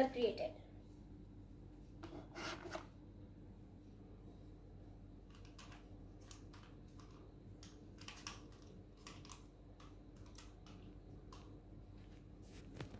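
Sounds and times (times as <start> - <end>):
low room hum: 0.0 - 12.9.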